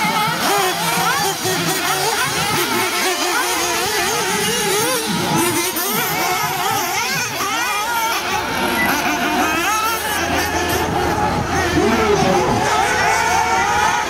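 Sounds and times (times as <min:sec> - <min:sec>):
rc car engines revving: 0:00.0 - 0:14.0.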